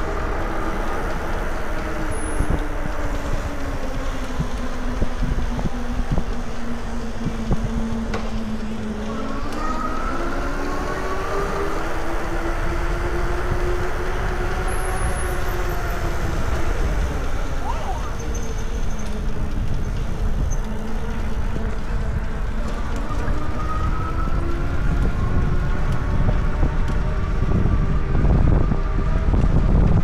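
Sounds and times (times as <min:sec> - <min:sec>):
wind on the microphone: 0:00.0 - 0:09.1, 0:10.8 - 0:30.0.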